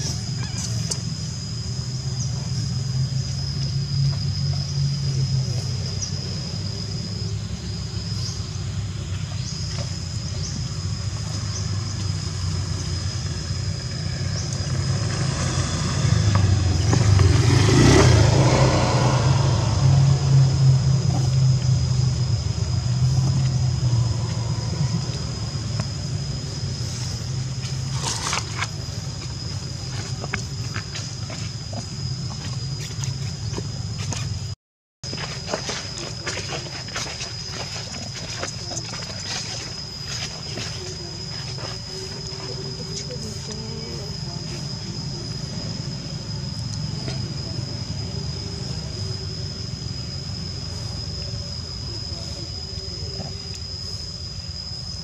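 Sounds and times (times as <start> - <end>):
high-pitched whine: 0.0 - 55.0
vehicle engine rumble: 0.0 - 55.0.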